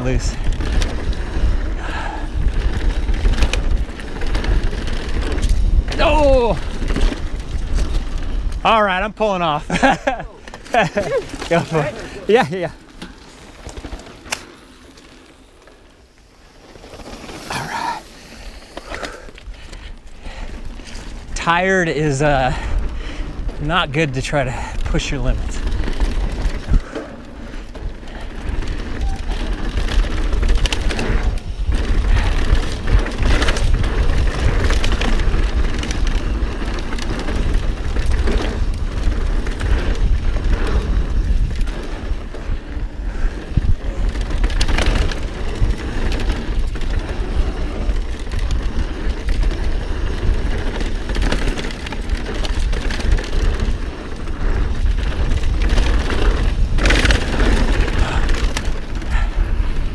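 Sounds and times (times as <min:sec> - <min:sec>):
wind rumble on microphone: 0:00.0 - 0:12.6, 0:17.1 - 0:59.9
bike knocking and rattling: 0:00.0 - 0:59.9
bike tyre noise: 0:00.0 - 0:59.9.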